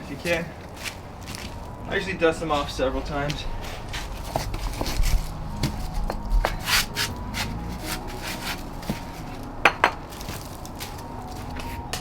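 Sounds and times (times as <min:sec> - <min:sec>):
paving stones scraping and clinking: 0:00.0 - 0:12.0.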